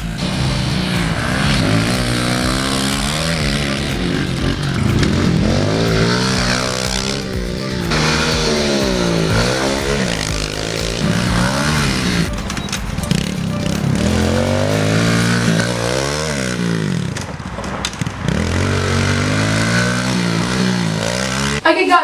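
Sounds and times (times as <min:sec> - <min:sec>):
motorbike engines revving: 0:00.0 - 0:22.0.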